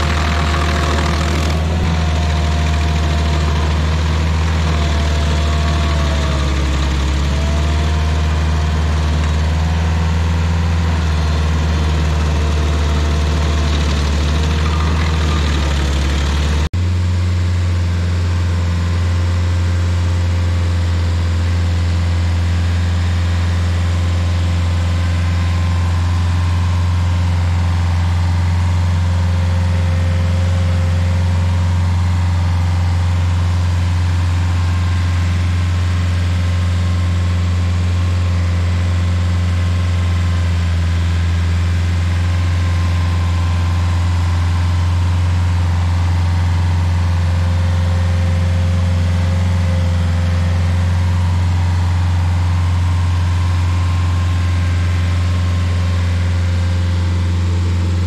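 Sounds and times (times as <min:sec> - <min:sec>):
stump grinder engine drone: 0:00.0 - 0:58.0.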